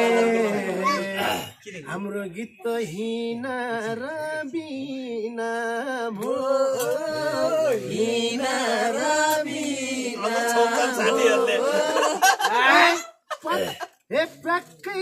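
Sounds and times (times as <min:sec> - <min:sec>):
men singing unaccompanied: 0:00.0 - 0:12.6.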